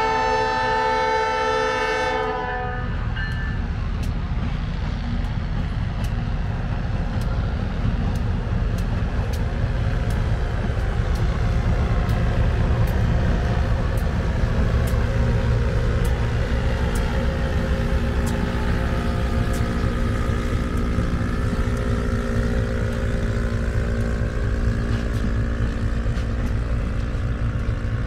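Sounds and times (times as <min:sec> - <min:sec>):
locomotive engine and wheel rumble: 0:00.0 - 0:28.0.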